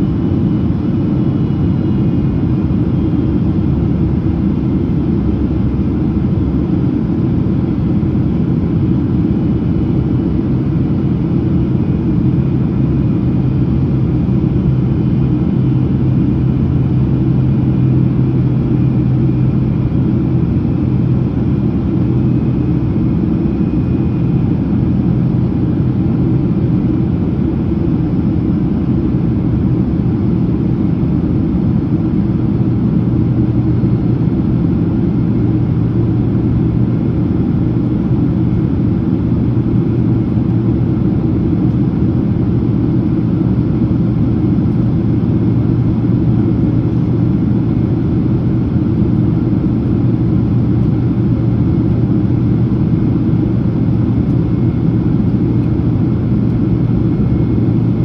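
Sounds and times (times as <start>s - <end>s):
airliner cabin engine rumble: 0.0s - 58.0s
low hum: 8.8s - 58.0s.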